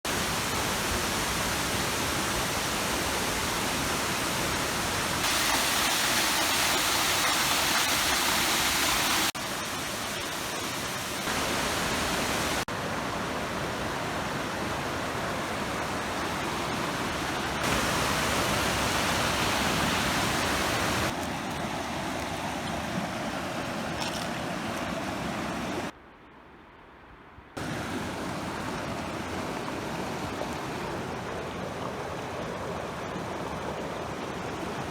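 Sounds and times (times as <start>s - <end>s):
water rushing: 0.1s - 26.0s, 27.6s - 34.9s.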